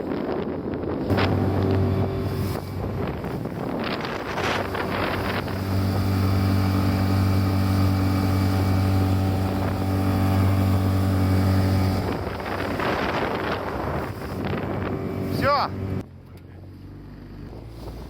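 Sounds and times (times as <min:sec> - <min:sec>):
wind buffeting microphone: 0:00.0 - 0:16.0
outboard motor running: 0:00.2 - 0:18.0
water rushing: 0:01.1 - 0:16.0.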